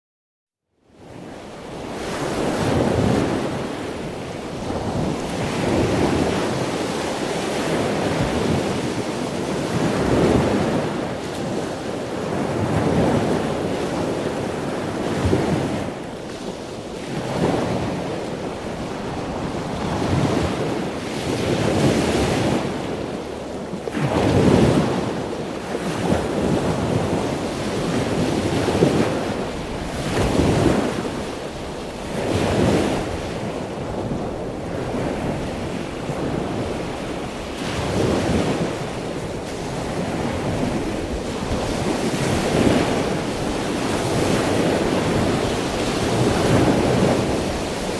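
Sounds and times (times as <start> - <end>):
small waves breaking on shore: 0.9 - 47.9
wind buffeting microphone: 1.0 - 47.9.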